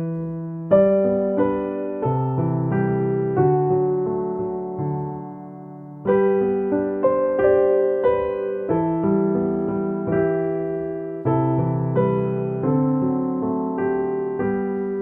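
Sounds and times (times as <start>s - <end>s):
gentle electric piano music: 0.0s - 15.0s.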